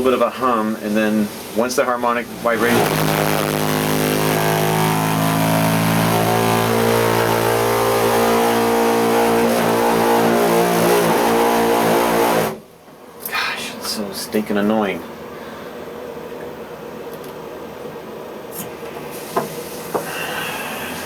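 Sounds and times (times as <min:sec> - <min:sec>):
water heater droning vibration: 0:00.0 - 0:21.0.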